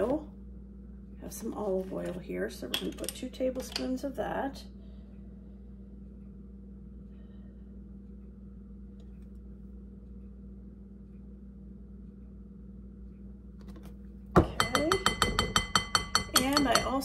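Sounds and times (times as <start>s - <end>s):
kitchen room tone hum: 0.0s - 17.0s.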